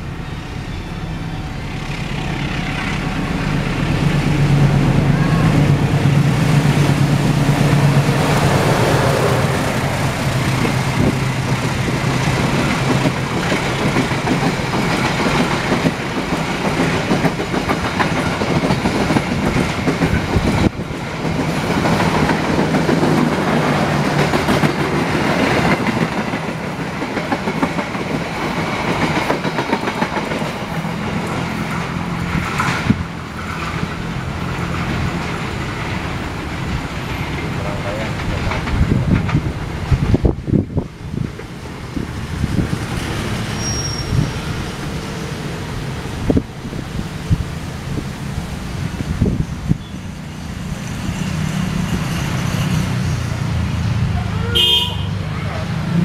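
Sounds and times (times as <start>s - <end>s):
train wheels running on rails: 0.0s - 54.5s.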